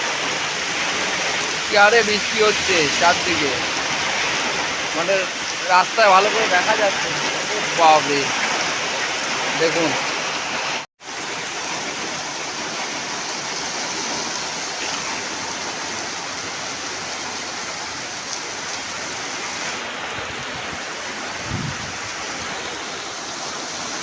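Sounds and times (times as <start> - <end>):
torrential rain pouring: 0.0 - 24.0.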